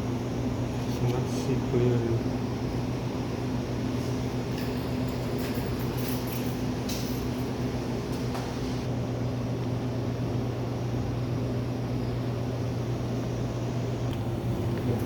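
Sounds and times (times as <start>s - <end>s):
vending machine electrical hum: 0.0s - 15.0s.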